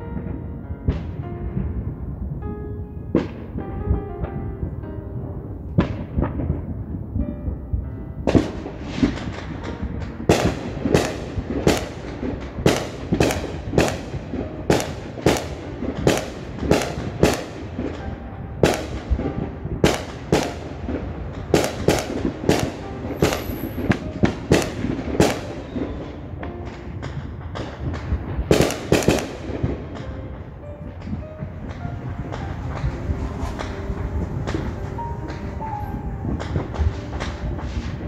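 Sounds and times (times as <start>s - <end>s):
fireworks bangs and pops: 0.0s - 1.7s, 3.1s - 3.7s, 5.7s - 7.0s, 8.2s - 38.0s.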